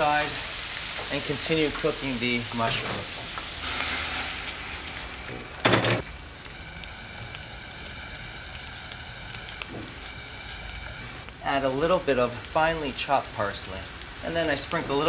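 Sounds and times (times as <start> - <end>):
mushrooms sizzling in a frying pan: 0.0 - 15.0.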